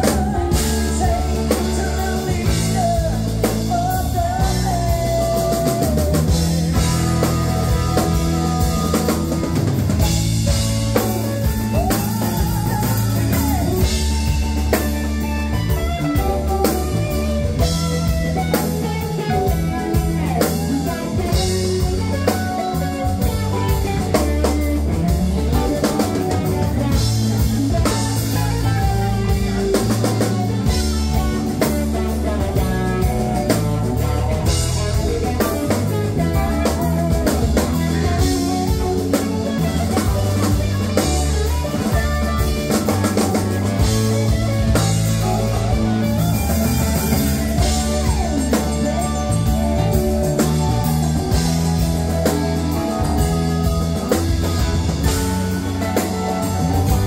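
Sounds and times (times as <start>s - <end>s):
bass guitar: 0.0s - 57.0s
drum kit beat: 0.0s - 57.0s
electric guitars: 0.0s - 57.0s
keyboards: 0.0s - 57.0s.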